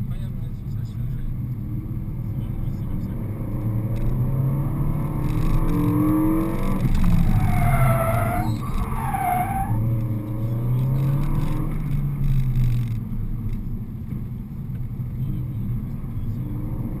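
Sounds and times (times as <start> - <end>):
car engine running inside cabin: 0.0 - 17.0.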